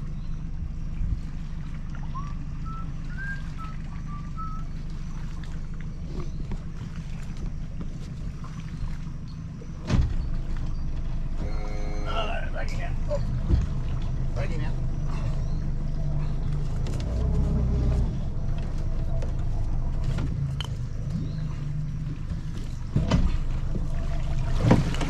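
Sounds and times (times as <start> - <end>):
outboard motor idling: 0.0 - 25.0.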